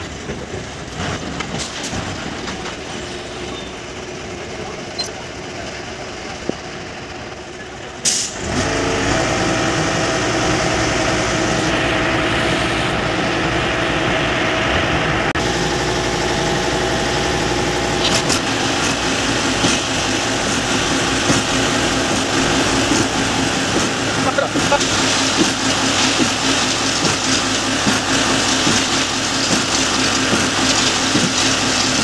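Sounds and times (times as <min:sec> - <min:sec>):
truck diesel engine droning: 0:00.0 - 0:32.0.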